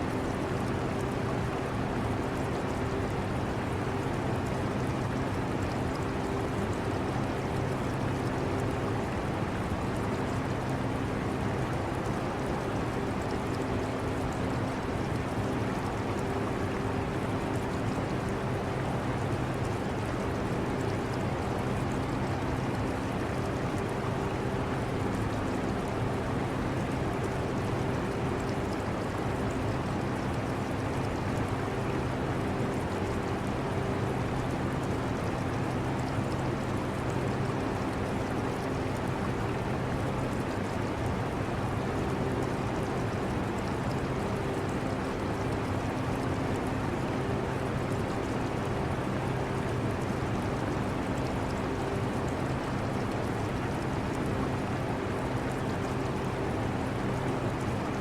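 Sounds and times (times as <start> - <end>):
aquarium water trickling: 0.0 - 58.0.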